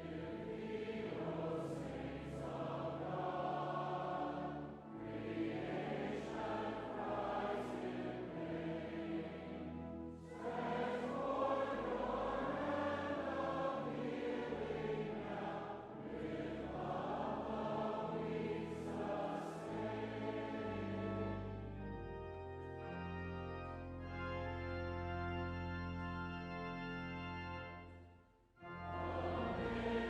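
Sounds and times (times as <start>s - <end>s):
congregation singing a hymn: 0.0s - 24.1s, 28.6s - 30.0s
organ playing: 0.0s - 30.0s.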